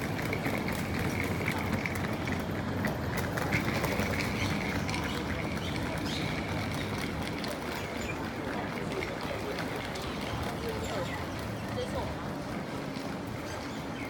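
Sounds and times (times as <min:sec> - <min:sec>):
low rumble of rail station: 0:00.0 - 0:14.0.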